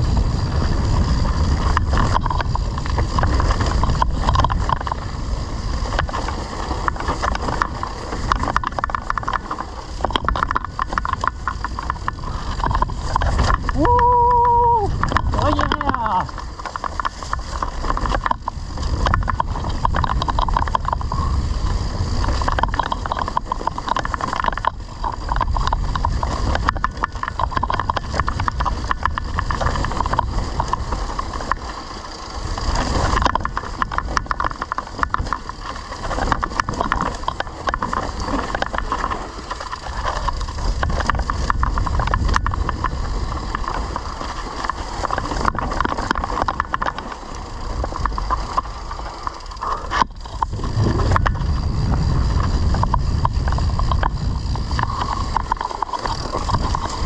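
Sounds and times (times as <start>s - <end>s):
bike rattling over bumps: 0.0s - 57.0s
wind on microphone: 0.0s - 57.0s.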